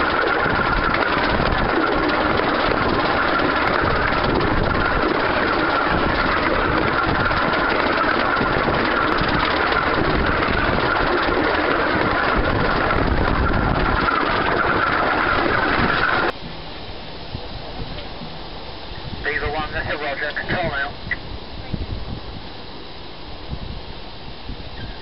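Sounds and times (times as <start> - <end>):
steam train running noise: 0.0 - 25.0.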